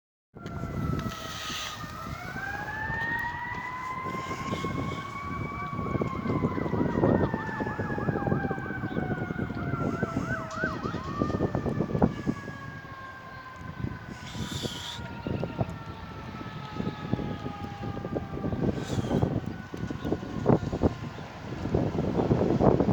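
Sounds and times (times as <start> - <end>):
siren fast yelp: 0.4 - 21.1
siren wailing: 0.4 - 22.8
engines rumbling: 0.4 - 22.9.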